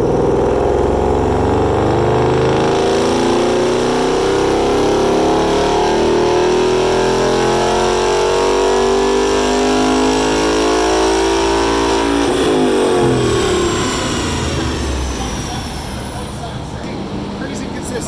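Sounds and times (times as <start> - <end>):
car engine revving at full throttle: 0.0 - 18.0.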